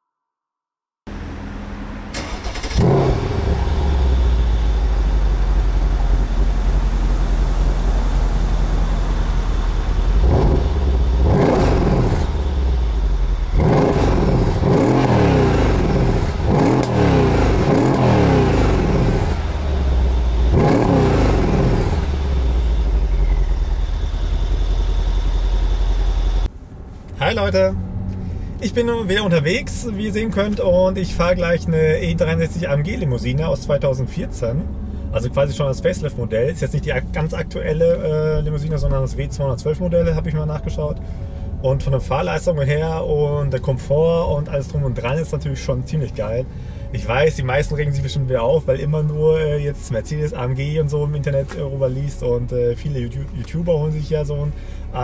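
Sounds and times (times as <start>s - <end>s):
car engine starting and revving: 1.1s - 26.5s, 27.2s - 55.0s.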